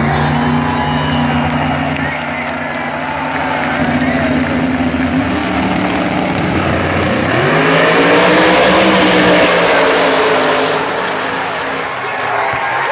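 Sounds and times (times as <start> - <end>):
drag race cars at full throttle: 0.0 - 12.9.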